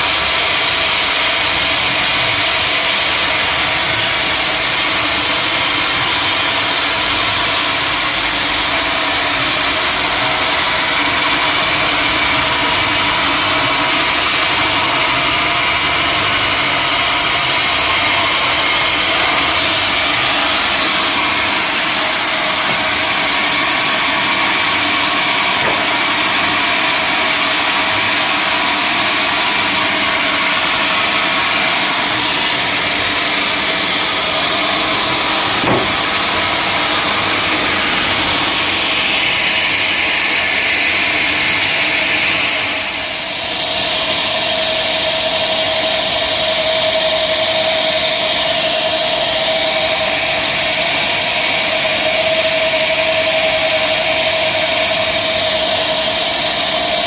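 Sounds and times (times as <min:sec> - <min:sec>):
sawmill machinery sawing wood: 0:00.0 - 0:57.0.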